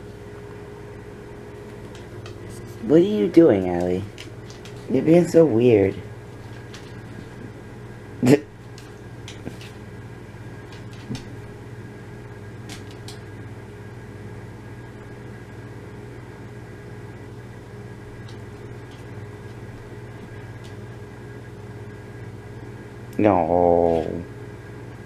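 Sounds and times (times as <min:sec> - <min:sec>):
appliance humming: 0:00.0 - 0:25.0.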